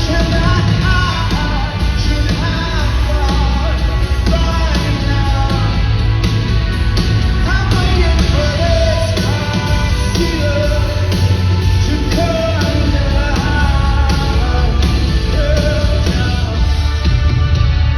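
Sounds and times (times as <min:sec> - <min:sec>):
rock band playing live: 0:00.0 - 0:17.9.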